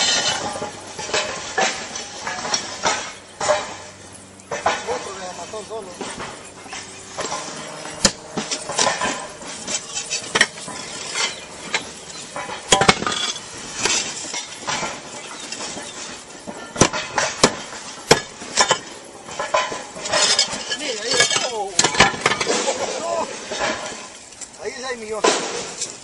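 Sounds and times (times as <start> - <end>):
roof tiles clinking: 0.0 - 26.0.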